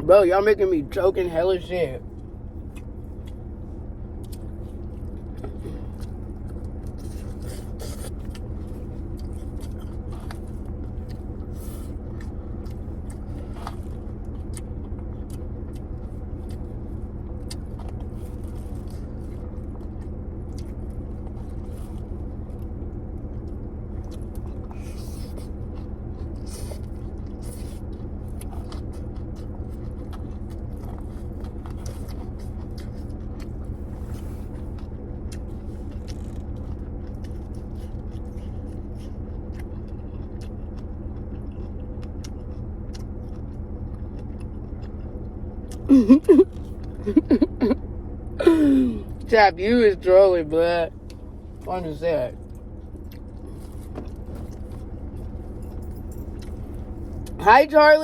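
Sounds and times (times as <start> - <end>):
steady low hum: 0.0 - 58.0
person chewing food: 2.0 - 49.3, 50.9 - 51.7, 52.3 - 57.4.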